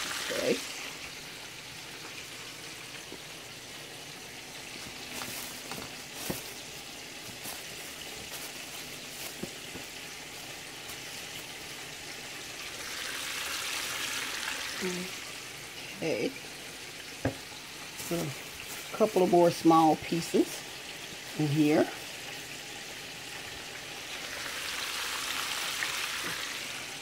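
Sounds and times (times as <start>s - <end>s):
hot oil sizzling: 0.0s - 27.0s.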